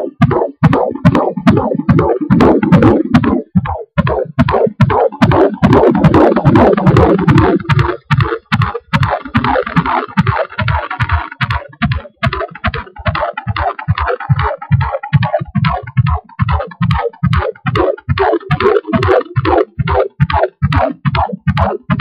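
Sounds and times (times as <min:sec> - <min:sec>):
fetal heartbeat through doppler: 0:00.0 - 0:22.0.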